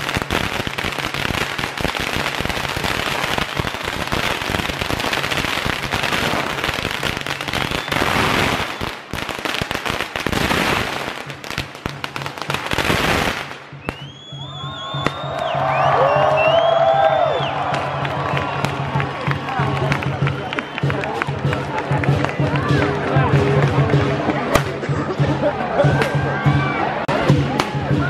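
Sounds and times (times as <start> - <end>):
firecrackers popping: 0.0 - 25.0.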